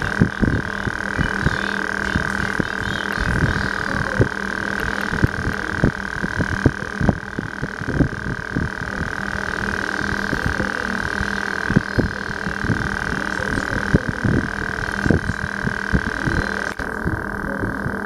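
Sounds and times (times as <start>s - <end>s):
faint low hum: 0.0s - 18.0s
high-pitched whine: 0.0s - 18.0s.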